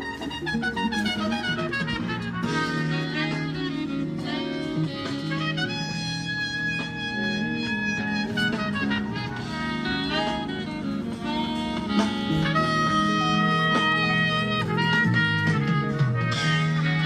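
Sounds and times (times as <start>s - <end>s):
jazzy brass music: 0.0s - 17.0s.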